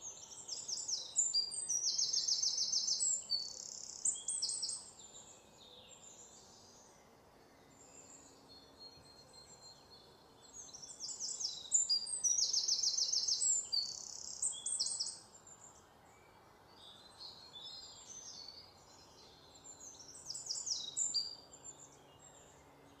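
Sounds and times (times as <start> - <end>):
faint outdoor hiss: 0.0 - 23.0
songbirds singing and chirping: 0.0 - 23.0.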